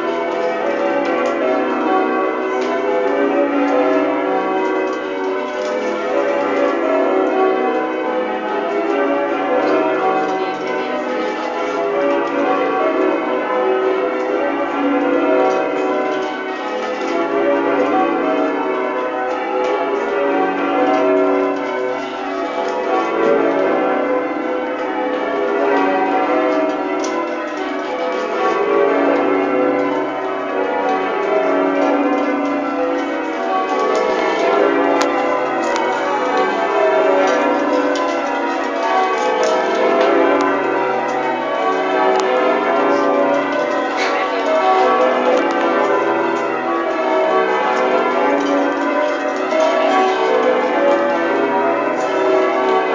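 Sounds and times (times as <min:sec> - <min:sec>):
church bells ringing changes: 0:00.0 - 0:52.9.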